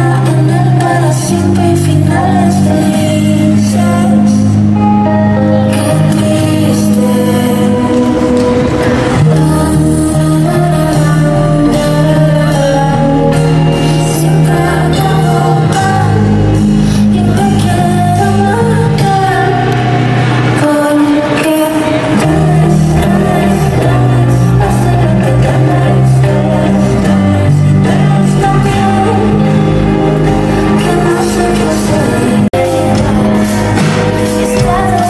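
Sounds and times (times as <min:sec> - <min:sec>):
live pop-rock band: 0:00.0 - 0:35.0
woman singing: 0:00.0 - 0:35.0.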